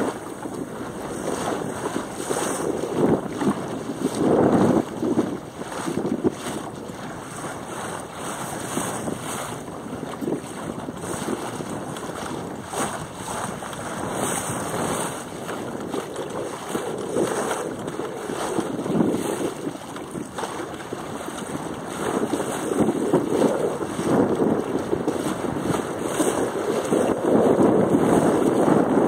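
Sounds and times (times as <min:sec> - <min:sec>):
water slapping along a hull: 0:00.0 - 0:29.0
wind buffeting microphone: 0:00.0 - 0:29.0.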